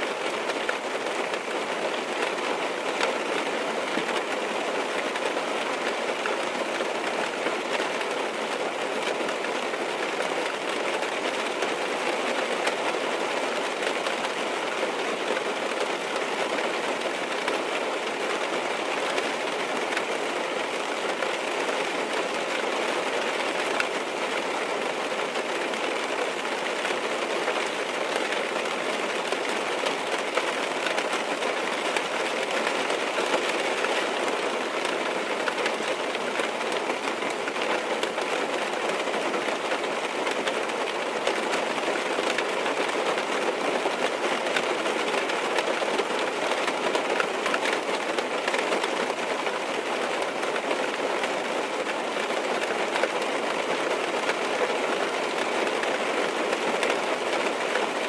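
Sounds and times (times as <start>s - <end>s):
rain drumming on car roof: 0.0s - 58.0s.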